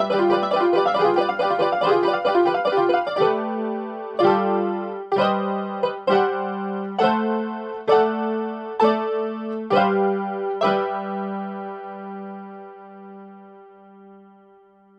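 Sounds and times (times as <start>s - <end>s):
electronic keyboard chords: 0.0s - 14.5s.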